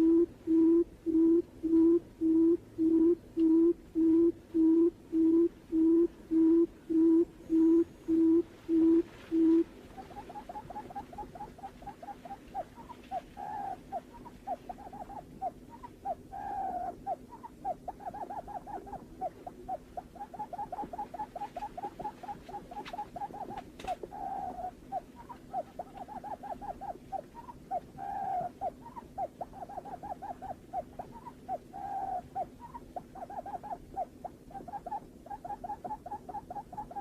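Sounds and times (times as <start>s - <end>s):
bird hooting call: 0.0s - 37.0s.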